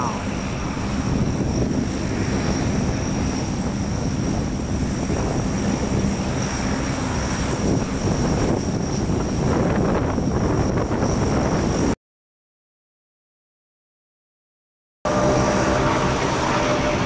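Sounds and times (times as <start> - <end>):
high turbine whine: 0.0 - 12.0, 15.1 - 17.0
propeller drone: 0.0 - 12.0, 15.0 - 17.0.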